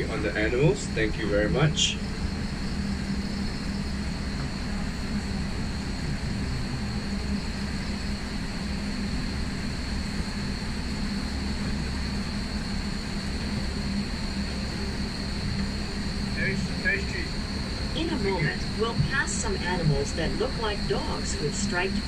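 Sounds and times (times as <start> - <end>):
tram rumbling on track: 0.0 - 22.0.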